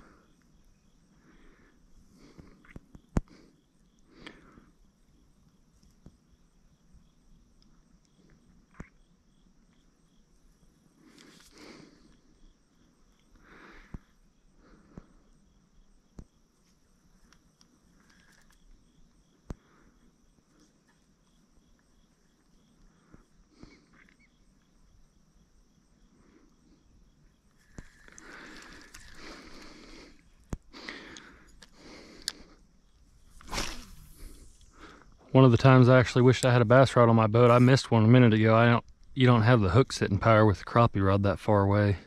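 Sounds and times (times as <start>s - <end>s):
faint insect trill: 0.0s - 42.0s.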